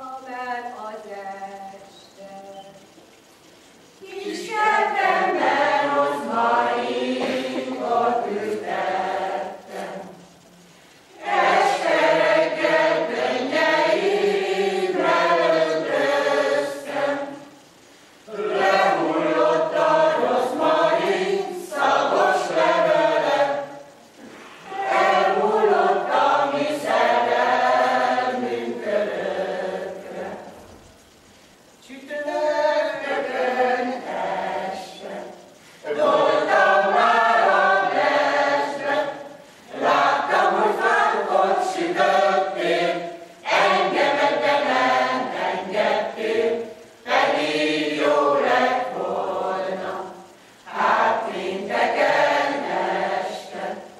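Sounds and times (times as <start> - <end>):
mixed choir singing unaccompanied: 3.9 - 53.9.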